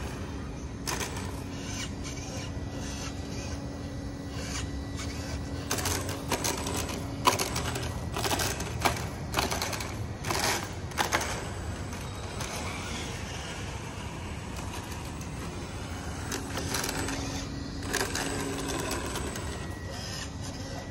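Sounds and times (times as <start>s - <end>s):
toy truck motor whine: 0.0s - 20.9s.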